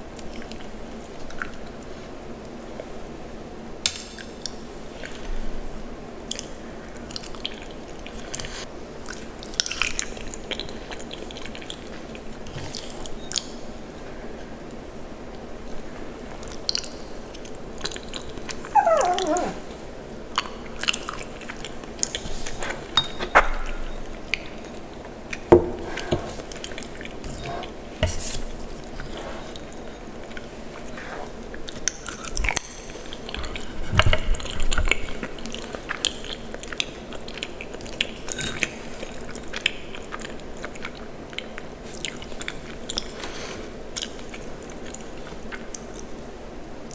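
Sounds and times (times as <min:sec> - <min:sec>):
close chewing and mouth squishes: 0:00.0 - 0:03.0, 0:06.2 - 0:25.5, 0:28.6 - 0:46.9.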